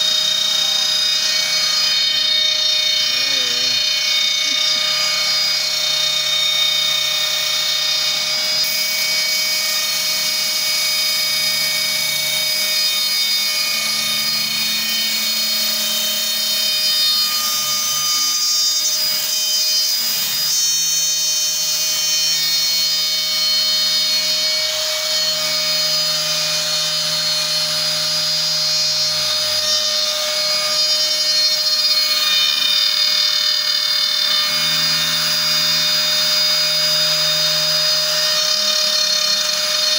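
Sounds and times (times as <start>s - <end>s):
router spindle high whine: 0.0s - 39.9s.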